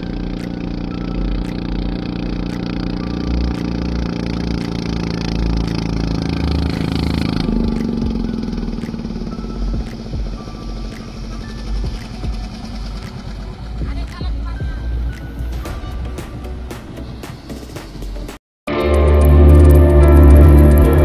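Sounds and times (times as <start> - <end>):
boat diesel engine running: 0.0 - 21.0.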